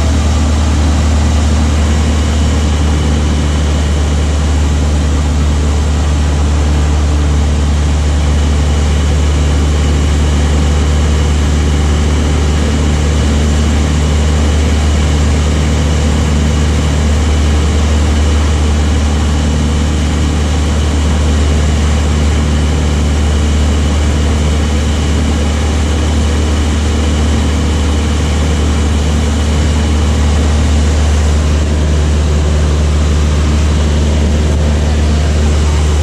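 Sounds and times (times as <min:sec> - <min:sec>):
propeller aircraft engine drone: 0:00.0 - 0:36.0.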